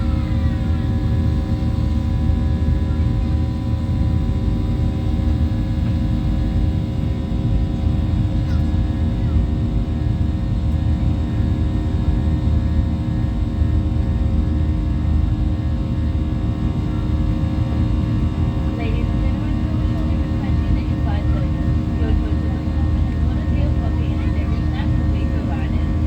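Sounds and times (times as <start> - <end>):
jet engine and airflow roar: 0.0 - 26.0
steady multi-tone hum: 0.0 - 26.0.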